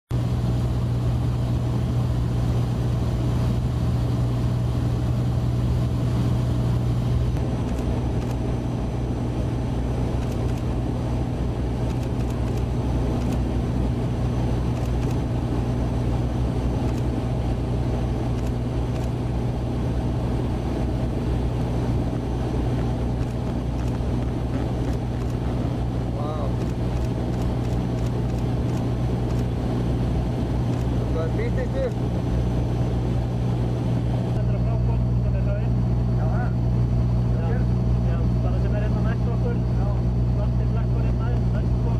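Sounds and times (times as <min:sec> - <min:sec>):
engine droning: 0:00.1 - 0:41.9.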